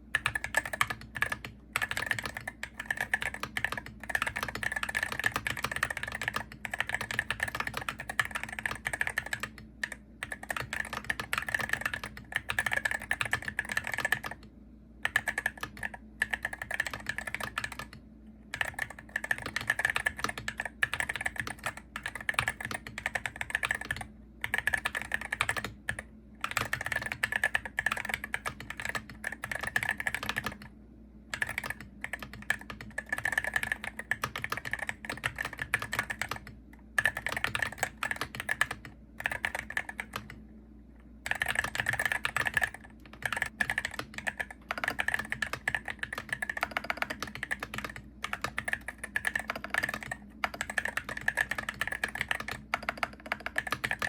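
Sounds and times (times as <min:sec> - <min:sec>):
keyboard typing clicks: 0:00.1 - 0:30.7, 0:31.3 - 0:40.4, 0:41.2 - 0:54.0.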